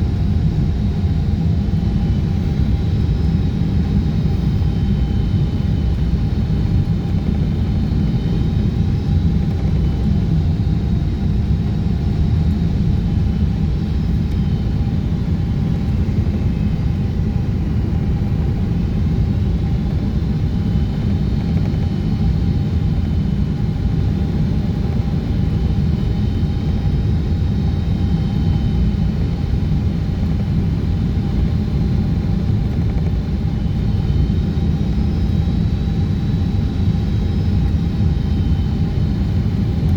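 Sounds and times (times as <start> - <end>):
airliner cabin rumble: 0.0 - 39.9
faint engine whine: 0.0 - 39.9.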